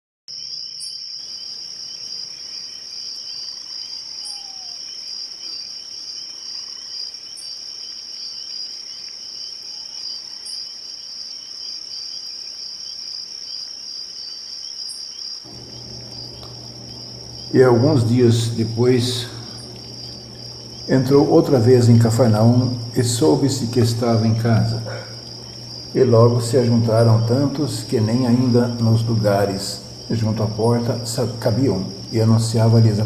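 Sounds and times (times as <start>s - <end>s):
crickets chirring: 0.3s - 33.0s.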